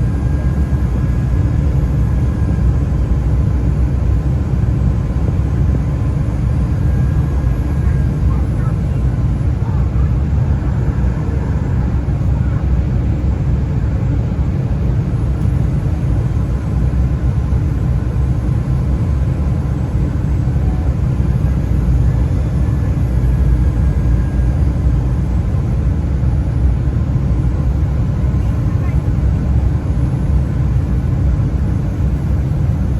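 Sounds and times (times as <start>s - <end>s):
jet cabin roar: 0.0s - 32.9s.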